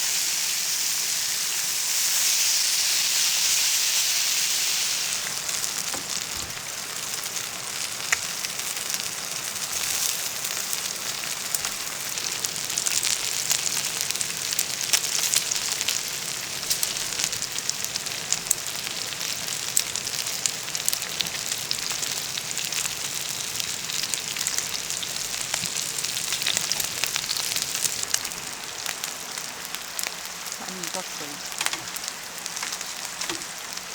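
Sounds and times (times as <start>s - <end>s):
food sizzling in hot oil: 0.0s - 33.9s.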